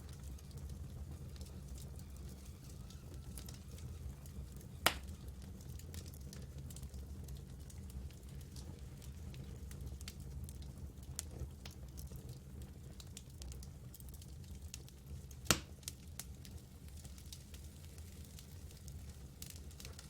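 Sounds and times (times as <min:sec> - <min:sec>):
campfire crackling: 0:00.0 - 0:20.0
fire popping: 0:00.0 - 0:20.0.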